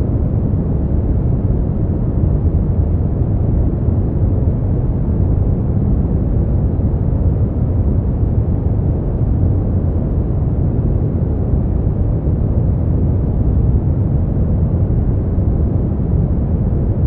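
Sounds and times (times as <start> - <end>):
deep bass-heavy white noise: 0.0 - 17.0.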